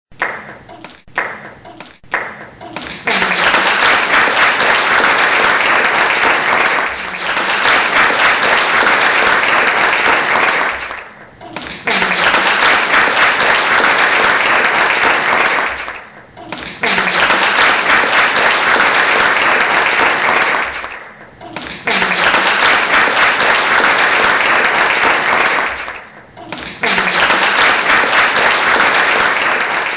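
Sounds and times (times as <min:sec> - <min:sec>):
crowd applauding: 0:02.8 - 0:29.9.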